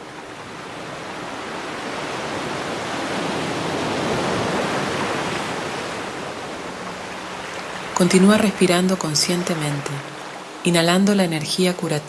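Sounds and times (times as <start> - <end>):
ocean wave washing in: 0.4 - 12.0.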